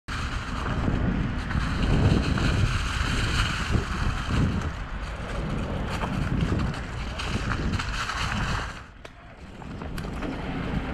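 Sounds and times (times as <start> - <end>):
bike tyres rustling over dry leaves: 0.1 - 10.9
wind rumbling on microphone: 0.1 - 10.9.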